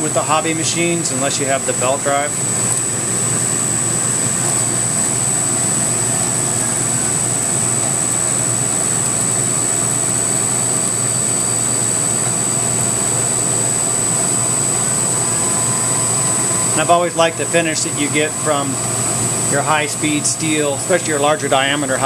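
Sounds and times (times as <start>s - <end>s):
high-pitched whine: 0.0s - 22.0s
milling machine spindle whir: 0.0s - 22.0s.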